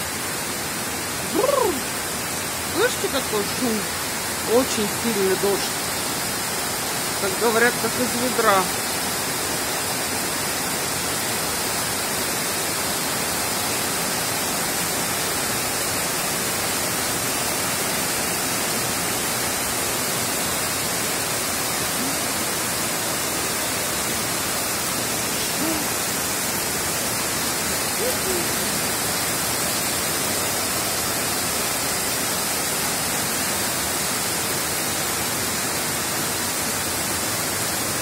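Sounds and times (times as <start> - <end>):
torrential rain pouring: 0.0 - 38.0.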